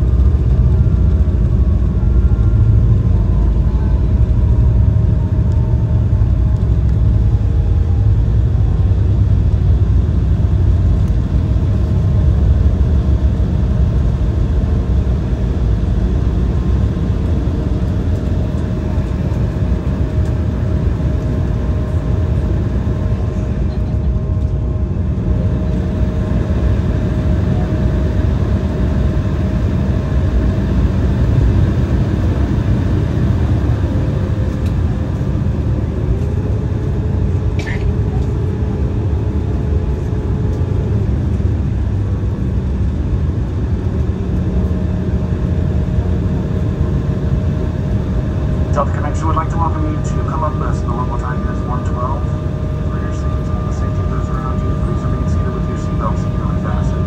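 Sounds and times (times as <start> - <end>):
faint steady engine tones: 0.0 - 57.0
jet cabin low rumble: 0.0 - 57.0.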